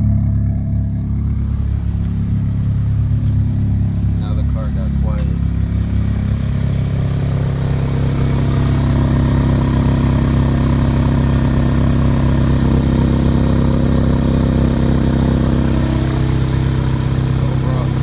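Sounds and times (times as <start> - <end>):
car engine idling loudly: 0.0 - 18.0.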